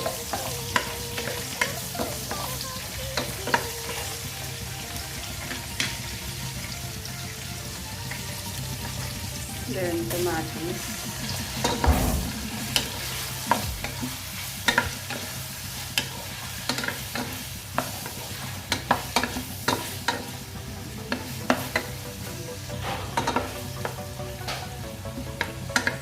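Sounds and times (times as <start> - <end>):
onion and tomato sizzling in oil: 0.0 - 26.0.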